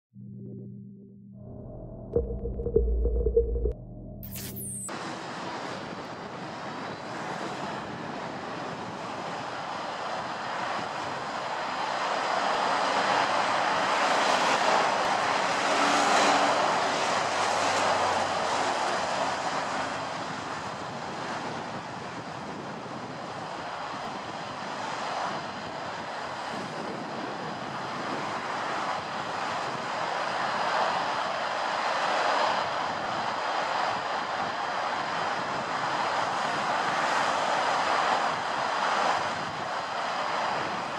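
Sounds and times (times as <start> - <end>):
jet engines droning: 0.2 - 40.9.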